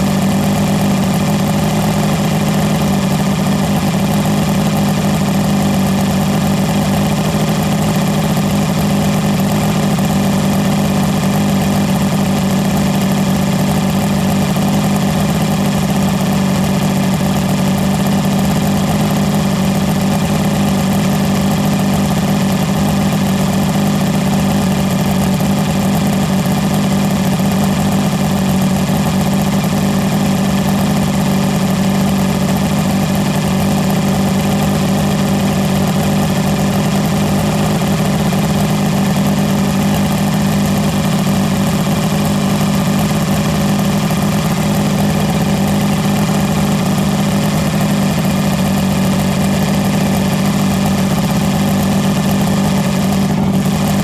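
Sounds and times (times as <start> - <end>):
outboard motor idling: 0.0 - 54.0.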